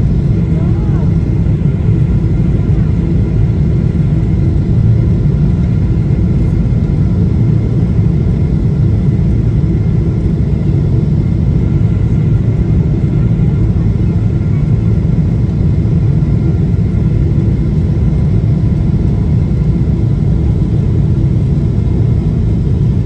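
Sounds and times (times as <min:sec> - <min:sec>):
faint steady whine: 0:00.0 - 0:23.0
jet engines rumbling in cabin: 0:00.0 - 0:23.0.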